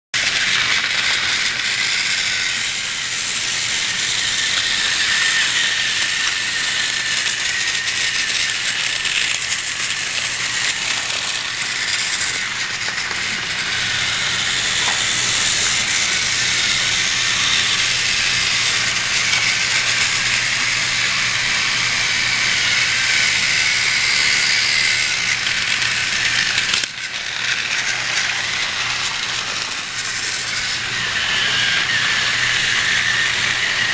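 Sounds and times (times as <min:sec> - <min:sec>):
toy train motor rattling: 0:00.2 - 0:33.9.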